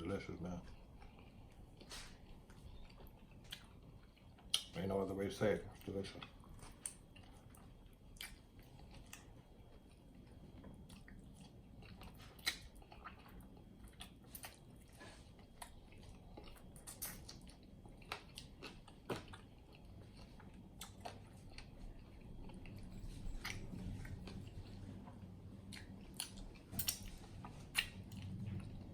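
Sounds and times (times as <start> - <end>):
person chewing chicken wings: 0.6 - 4.8, 5.7 - 28.9.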